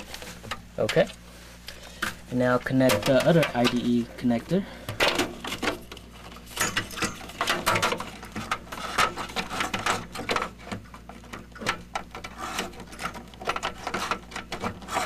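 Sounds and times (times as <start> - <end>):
cable rustling and clicking: 0.0 - 4.1, 4.9 - 15.0
low steady hum: 0.0 - 15.0.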